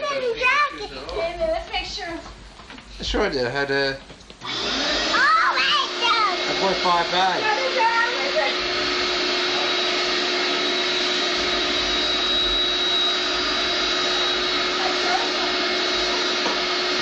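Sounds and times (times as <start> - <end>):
vacuum cleaner running: 3.0 - 17.0.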